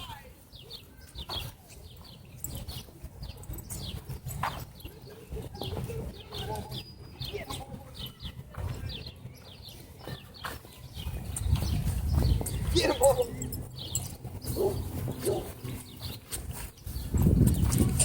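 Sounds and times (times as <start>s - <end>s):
bird chirping: 0.0s - 18.0s
low rumble of wind: 0.0s - 18.0s.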